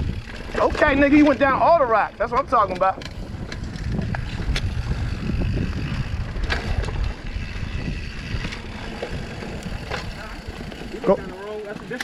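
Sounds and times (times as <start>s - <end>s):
bike clicks and rattles: 0.0s - 12.0s
mountain bike riding rough trail: 0.0s - 12.0s
wind buffeting microphone: 0.0s - 12.0s.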